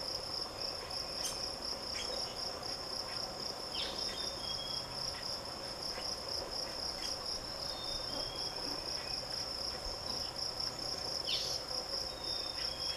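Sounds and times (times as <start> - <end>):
high-pitched insect trill: 0.0 - 12.9.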